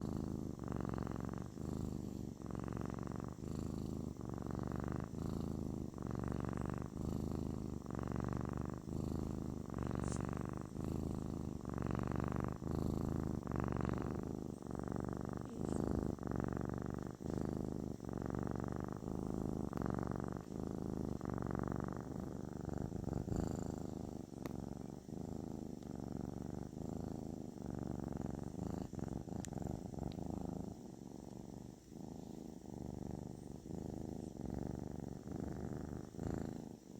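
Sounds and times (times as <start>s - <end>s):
kitten purring: 0.0s - 36.9s.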